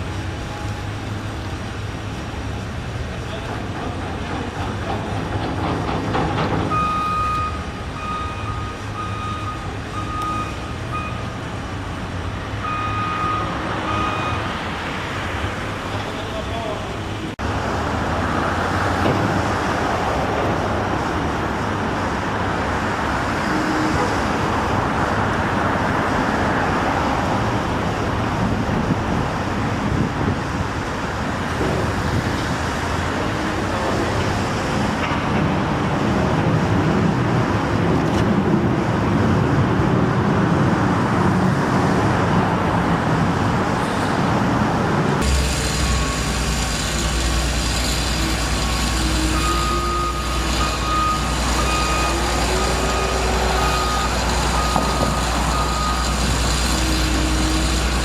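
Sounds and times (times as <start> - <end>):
passing cars traffic noise: 0.0 - 58.0.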